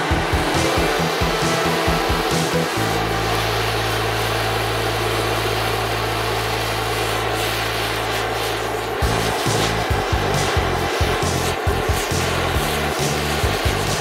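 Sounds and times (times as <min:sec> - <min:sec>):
gas torch flame hissing: 0:00.0 - 0:14.0
low drone with pulsing beat: 0:00.0 - 0:14.0.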